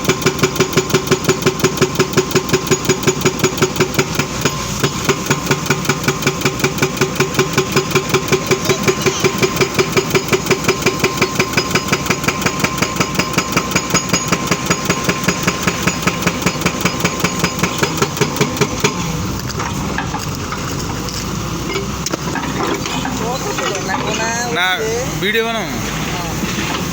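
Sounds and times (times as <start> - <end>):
excavator engine running: 0.0 - 26.9.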